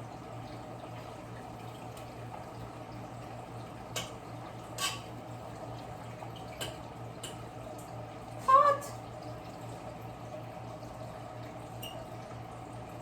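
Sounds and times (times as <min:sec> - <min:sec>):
pot of water boiling: 0:00.0 - 0:13.0.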